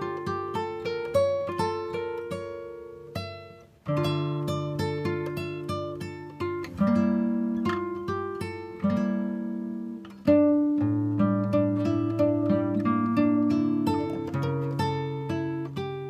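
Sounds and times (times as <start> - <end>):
plucked acoustic guitar: 0.0 - 16.0.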